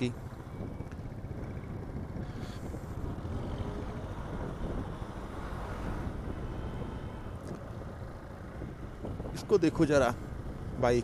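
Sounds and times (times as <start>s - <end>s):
wind rush on microphone: 0.4s - 11.0s.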